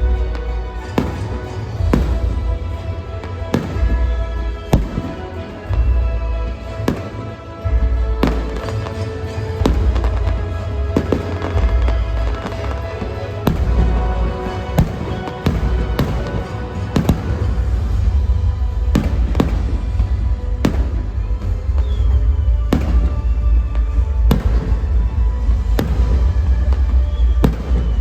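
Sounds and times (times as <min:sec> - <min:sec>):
fireworks bangs: 0:00.0 - 0:28.0
loud music with heavy bass: 0:00.0 - 0:28.0.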